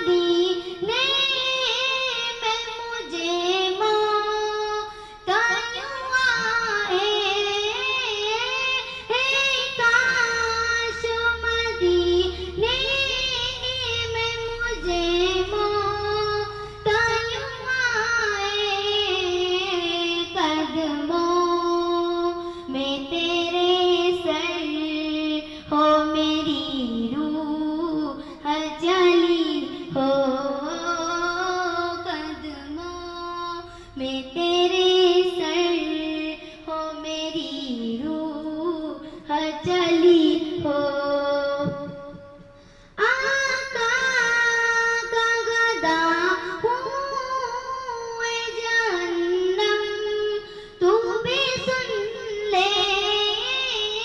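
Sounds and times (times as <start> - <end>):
child singing: 0.0 - 54.0.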